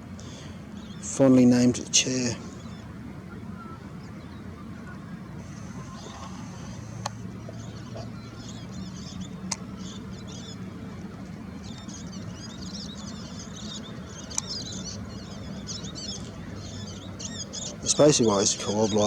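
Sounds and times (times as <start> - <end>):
low steady hum: 0.0 - 19.0
small birds twittering: 0.0 - 19.0.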